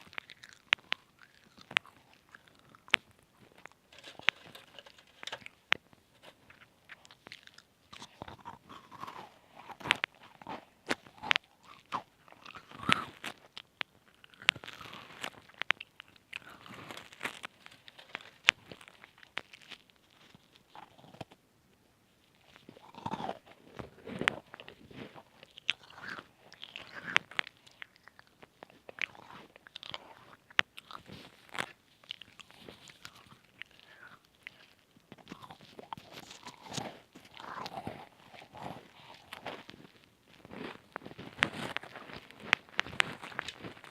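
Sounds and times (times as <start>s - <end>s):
crunching and chewing cookies: 0.0s - 43.9s.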